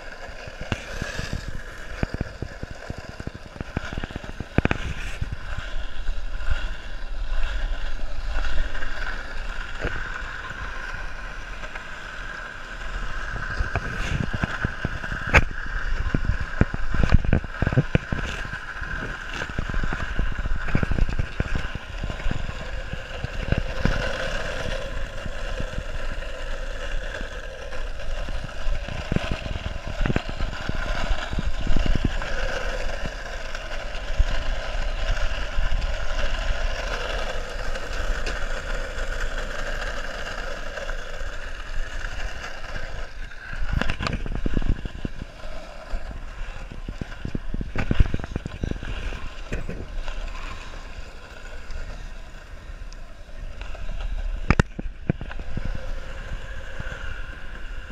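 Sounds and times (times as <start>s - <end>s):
skateboard wheels rolling on asphalt: 0.0s - 57.9s
wheels clicking over cracks: 0.0s - 57.9s.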